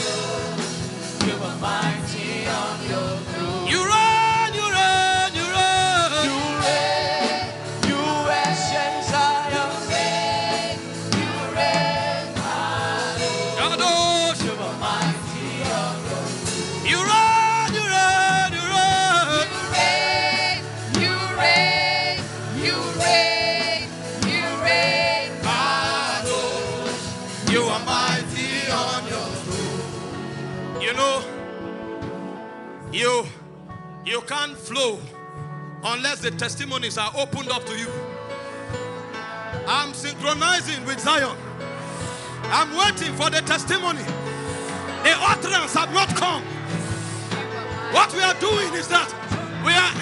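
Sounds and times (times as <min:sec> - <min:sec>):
gospel worship singing: 0:00.0 - 0:32.7, 0:38.5 - 0:50.0
instrumental accompaniment: 0:00.0 - 0:50.0.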